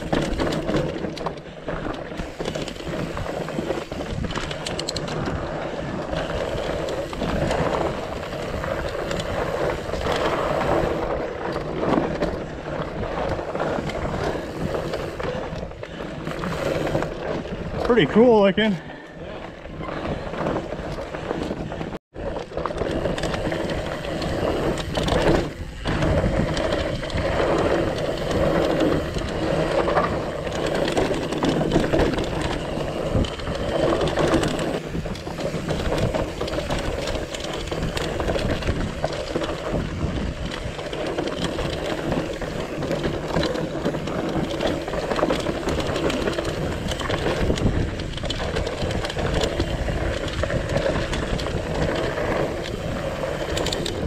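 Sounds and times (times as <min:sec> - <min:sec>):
bike chain and frame rattling: 0:00.0 - 0:54.0
bike tyres crunching over rocks: 0:00.0 - 0:54.0.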